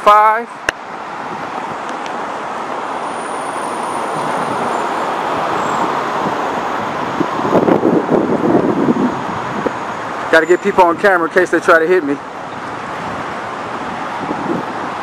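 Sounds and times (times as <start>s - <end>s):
cars driving past: 0.4s - 15.0s.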